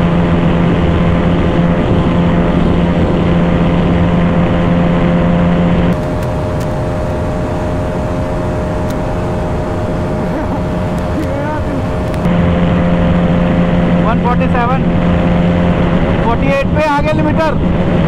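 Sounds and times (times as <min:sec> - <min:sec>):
motorcycle engine running at high speed: 0:00.0 - 0:18.0.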